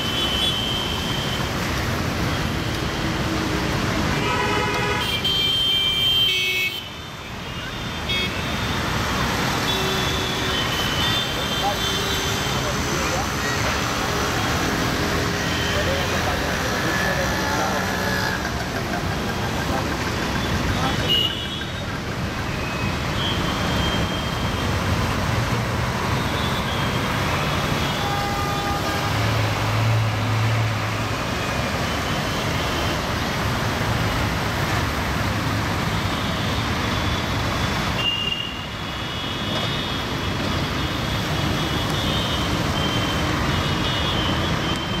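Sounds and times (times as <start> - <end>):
city traffic on wet road: 0.0 - 45.0.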